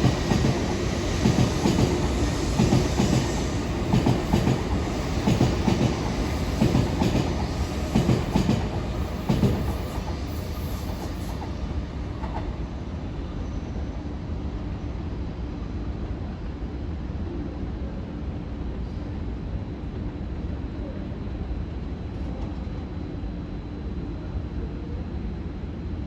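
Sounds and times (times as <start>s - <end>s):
train steady rumble: 0.0s - 26.0s.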